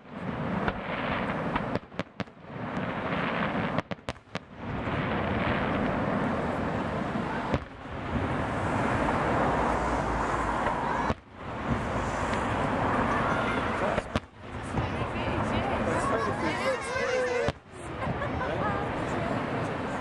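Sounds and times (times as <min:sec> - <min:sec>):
fireworks bursting and cracking: 0:00.0 - 0:20.0.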